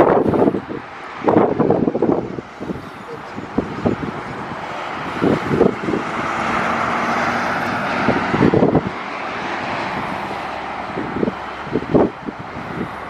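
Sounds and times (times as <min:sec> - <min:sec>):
jet engines roaring: 0:00.0 - 0:13.0
wind buffeting microphone: 0:00.0 - 0:13.0.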